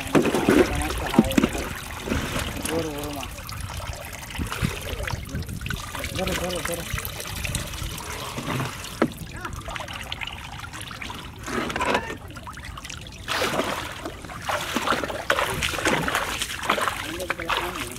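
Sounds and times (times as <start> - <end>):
person wading through shallow water: 0.0 - 17.9
water dripping and sloshing: 0.0 - 17.9.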